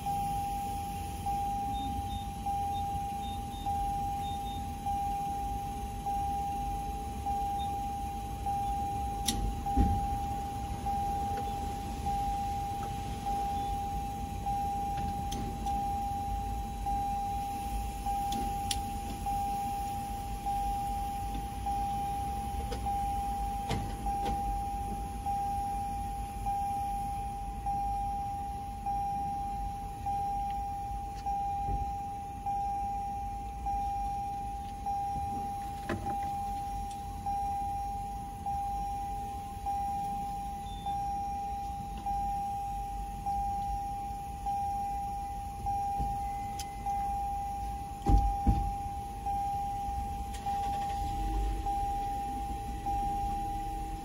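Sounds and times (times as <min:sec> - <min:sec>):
constant high whine: 0:00.0 - 0:54.0
road noise: 0:00.0 - 0:54.0.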